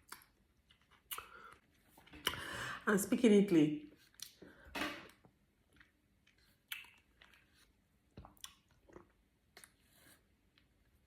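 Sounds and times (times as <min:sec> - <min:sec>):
person chewing food: 0:00.0 - 0:02.5, 0:04.0 - 0:11.0.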